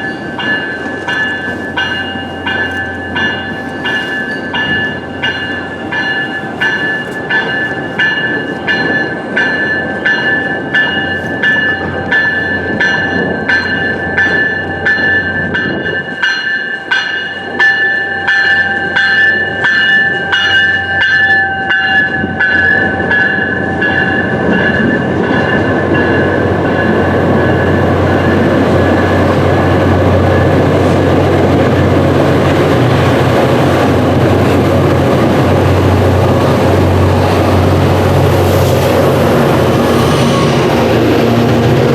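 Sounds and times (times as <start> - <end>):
train rumble with low hum: 0.0 - 41.9.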